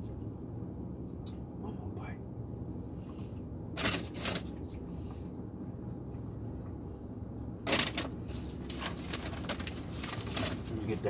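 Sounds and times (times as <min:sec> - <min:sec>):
low hum inside a car: 0:00.0 - 0:11.0.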